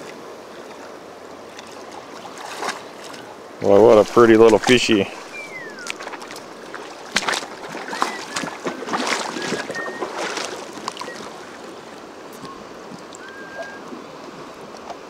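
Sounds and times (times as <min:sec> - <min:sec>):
stream rushing: 0:00.0 - 0:15.0
water splashing: 0:00.0 - 0:15.0.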